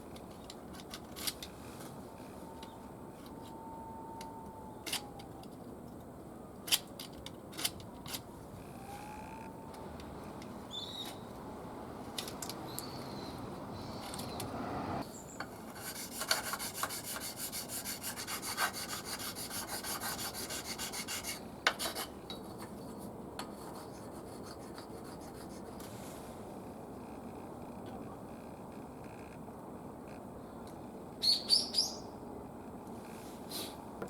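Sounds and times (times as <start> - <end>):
faint background noise: 0.0 - 34.0.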